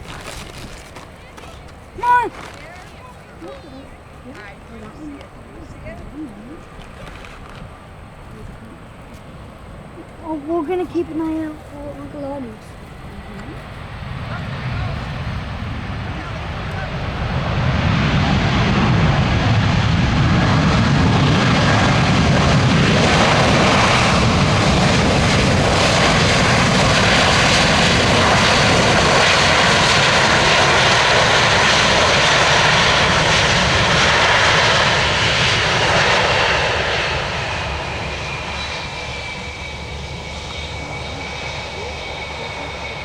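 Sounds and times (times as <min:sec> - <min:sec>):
falling engine whine: 0:00.0 - 0:43.0
jet engines running loud: 0:00.0 - 0:43.0.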